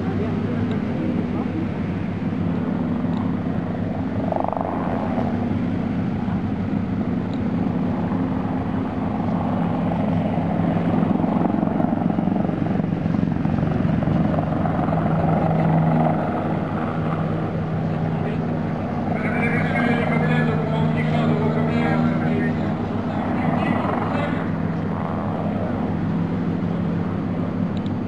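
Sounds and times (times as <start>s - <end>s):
helicopter rotor drone: 0.0s - 28.0s.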